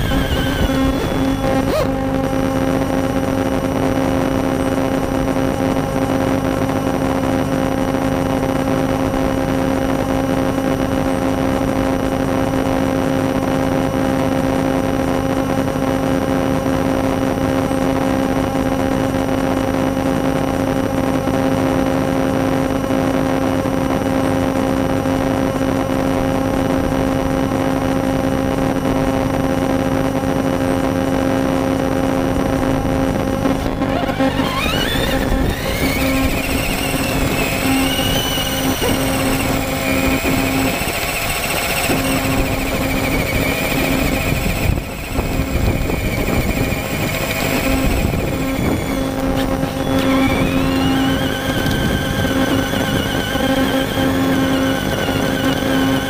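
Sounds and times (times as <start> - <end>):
noisy rush: 0.0 - 16.0, 22.5 - 56.0
mechanical hum: 0.0 - 56.0.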